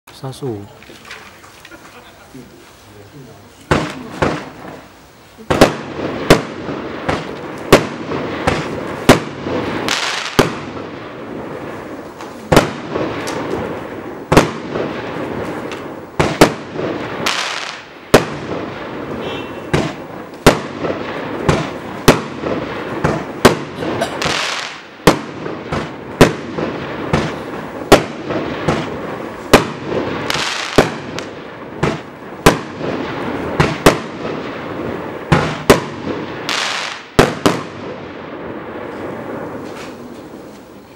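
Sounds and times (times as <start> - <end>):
firework hiss: 1.0 - 40.9
firework launch and burst bangs: 3.7 - 40.6.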